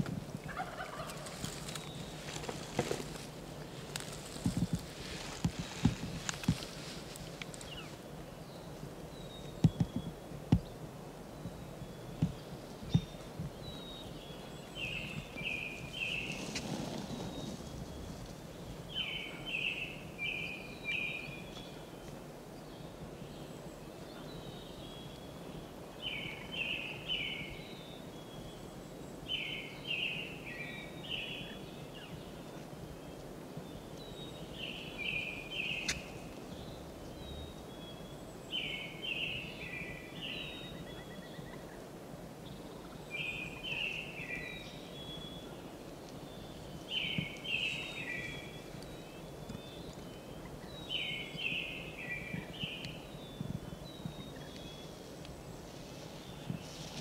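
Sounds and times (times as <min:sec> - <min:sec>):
steady outdoor background: 0:00.0 - 0:57.0
bird singing: 0:00.5 - 0:03.2, 0:07.6 - 0:57.0.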